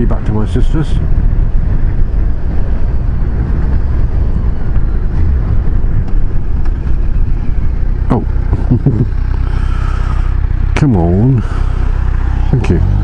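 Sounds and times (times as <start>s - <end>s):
motorcycle road noise rumble: 0.0s - 13.0s
wind buffeting microphone: 0.0s - 13.0s.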